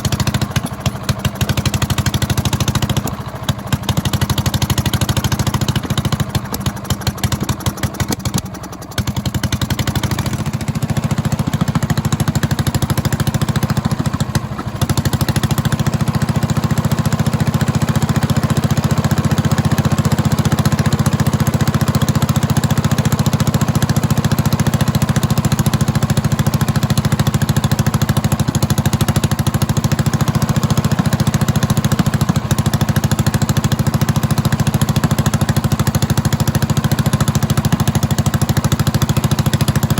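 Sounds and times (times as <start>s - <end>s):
stationary engine exhaust beat: 0.0s - 39.9s.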